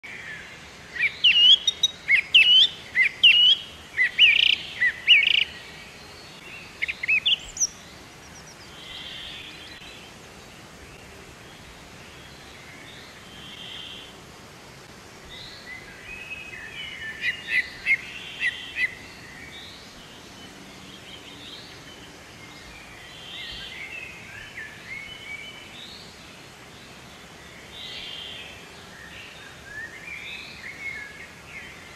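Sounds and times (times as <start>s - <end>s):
faint outdoor background: 0.0s - 31.9s
birds chirping: 0.2s - 14.1s, 15.2s - 31.9s.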